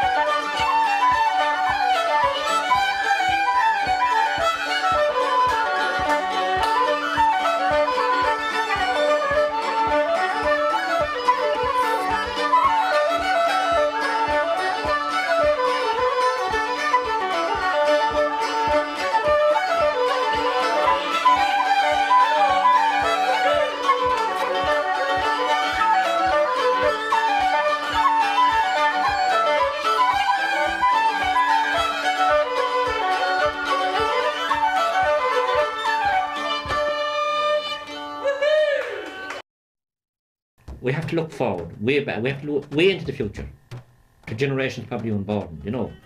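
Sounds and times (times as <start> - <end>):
low beat keeping time: 0.0 - 37.2, 40.6 - 46.0
strummed mandolin: 0.0 - 38.3, 40.6 - 46.0
tin whistle: 0.0 - 39.1
fiddle: 0.0 - 39.4
wooden flute: 0.0 - 39.4.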